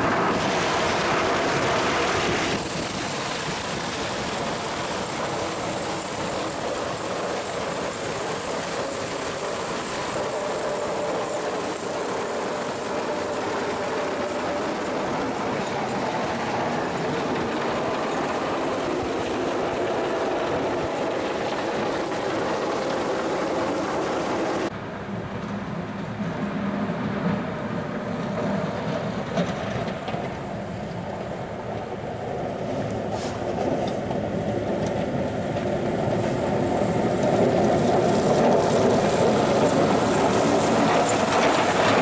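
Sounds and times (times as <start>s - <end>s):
heavy truck engines rumbling: 0.0s - 42.0s.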